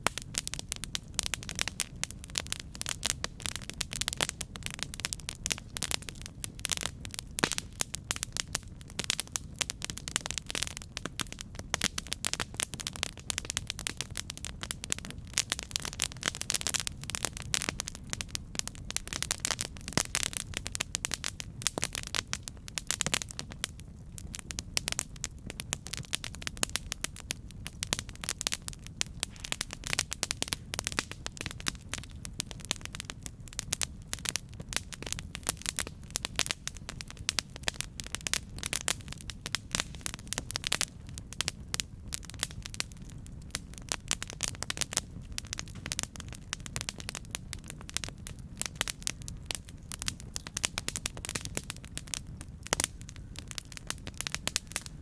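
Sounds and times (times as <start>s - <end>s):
low rumble of flames: 0.0s - 55.0s
wood crackling and popping: 0.0s - 55.0s.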